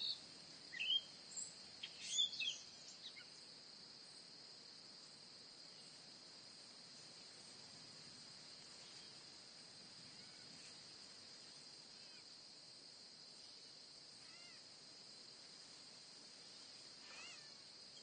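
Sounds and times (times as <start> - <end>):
insect drone: 0.0 - 18.0.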